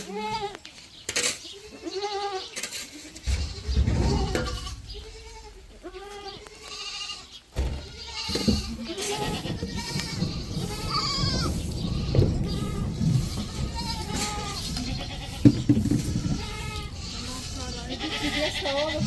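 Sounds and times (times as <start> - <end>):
goats bleating: 0.0 - 0.7, 1.6 - 19.0.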